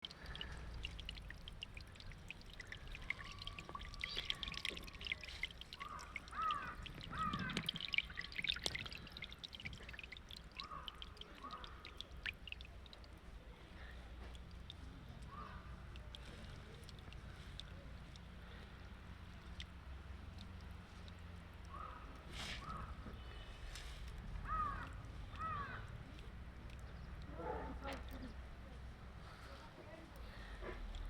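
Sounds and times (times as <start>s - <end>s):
water pouring and trickling: 0.0s - 28.7s
small splashes and drips: 0.0s - 31.0s.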